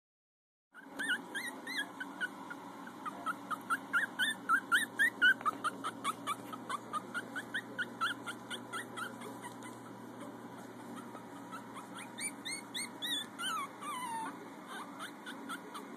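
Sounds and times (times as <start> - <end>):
puppies squeaking and whimpering: 0.8 - 15.9.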